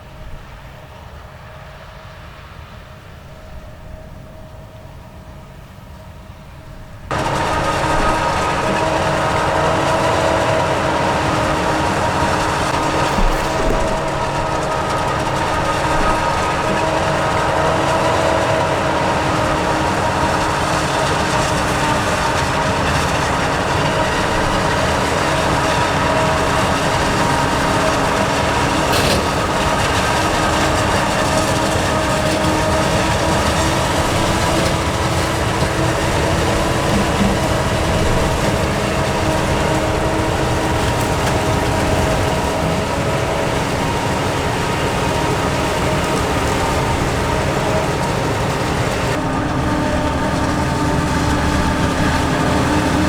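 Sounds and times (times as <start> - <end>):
diesel engine drone: 7.1 - 53.0
machinery whining: 7.1 - 53.0.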